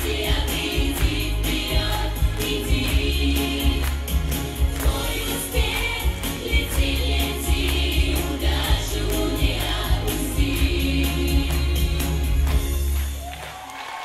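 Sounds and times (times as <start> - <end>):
children's choir singing: 0.0 - 12.4.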